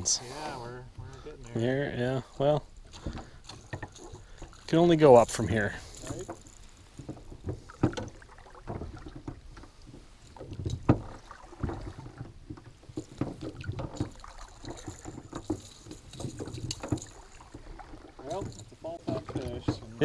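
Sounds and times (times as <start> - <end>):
knocks and thumps in aluminum boat: 2.9 - 20.0.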